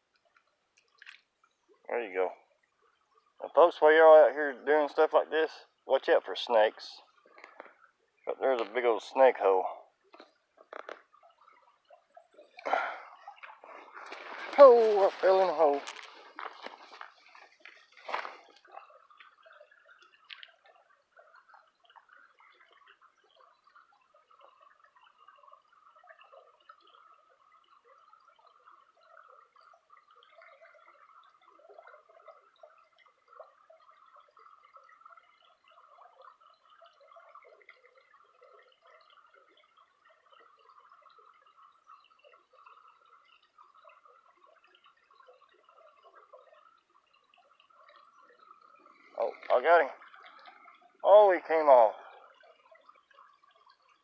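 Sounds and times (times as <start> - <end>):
creek water trickling: 0.0 - 54.0.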